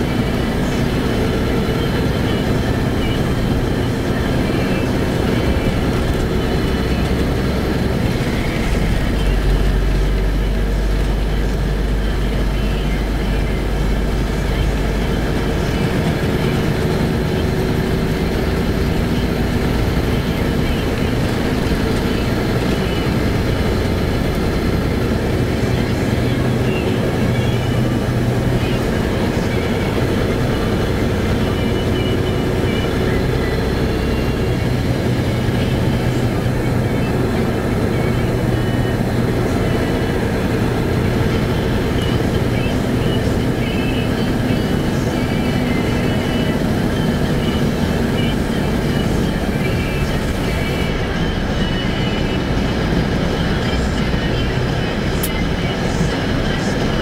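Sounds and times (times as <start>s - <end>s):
vehicle engine drone and road noise: 0.0s - 57.0s.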